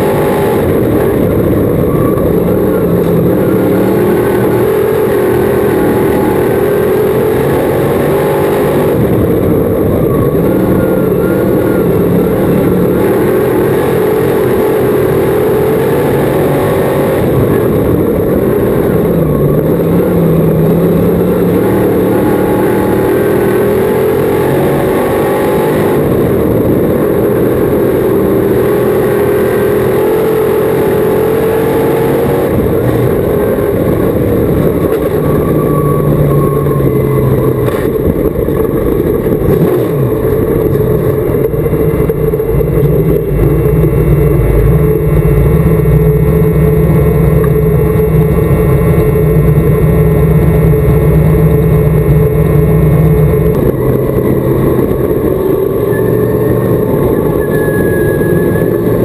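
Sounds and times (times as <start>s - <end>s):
race car engine running hard: 0.0s - 59.0s.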